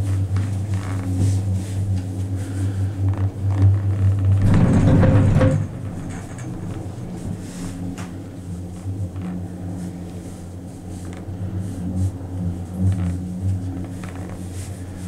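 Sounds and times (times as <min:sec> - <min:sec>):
gondola cabin low hum: 0:00.0 - 0:15.0.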